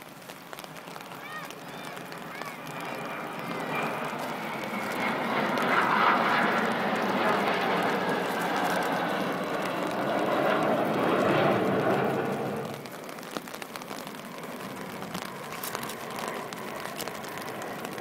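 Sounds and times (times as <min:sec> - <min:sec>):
aircraft flying past: 0:00.3 - 0:18.0.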